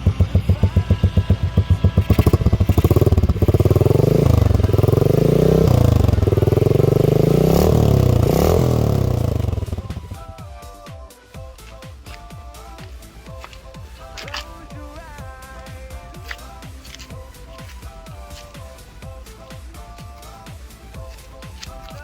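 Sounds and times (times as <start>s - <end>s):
motorcycle engine idling and revving: 0.0s - 10.8s, 11.5s - 22.0s.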